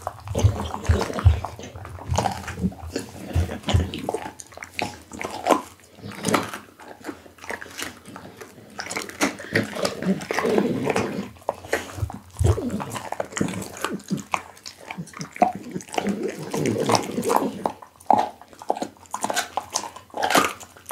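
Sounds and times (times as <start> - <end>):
dog chewing raw meat: 0.0 - 20.9.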